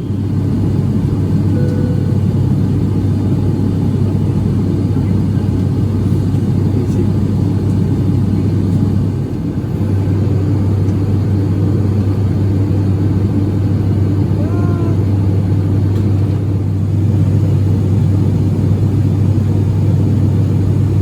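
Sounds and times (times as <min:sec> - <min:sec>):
airliner cabin engine rumble: 0:00.0 - 0:21.0
low hum: 0:00.1 - 0:20.0.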